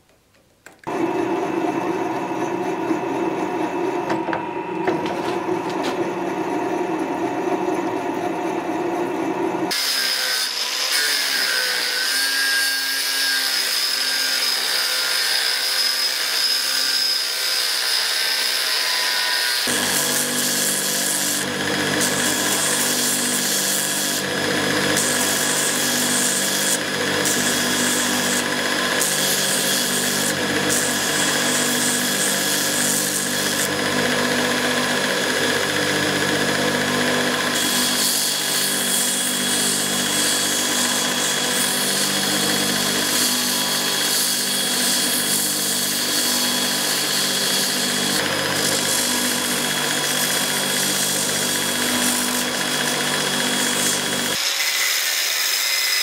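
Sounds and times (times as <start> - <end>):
belt grinder running: 9.7 - 56.0.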